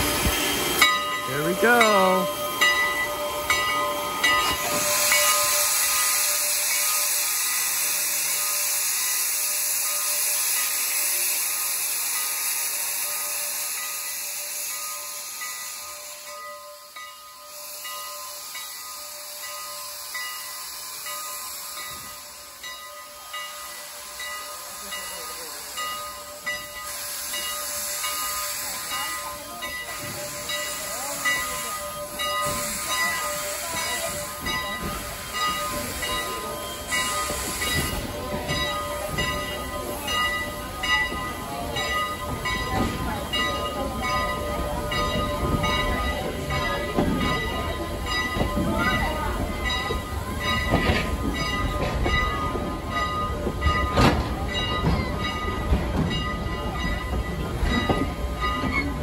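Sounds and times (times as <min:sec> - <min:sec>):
coaches rolling on rails: 0:00.0 - 0:59.0
steam locomotive hissing: 0:00.0 - 0:59.0.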